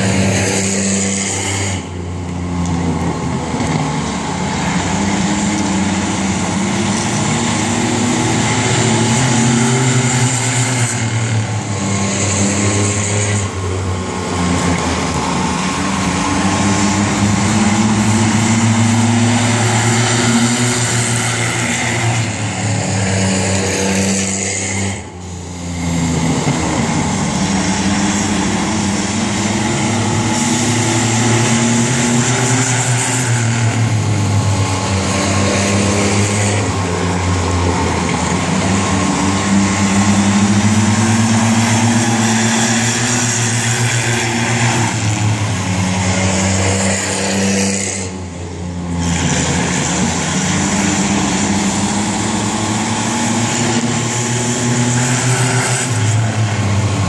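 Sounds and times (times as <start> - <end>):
race car engines running hard: 0.0 - 57.0.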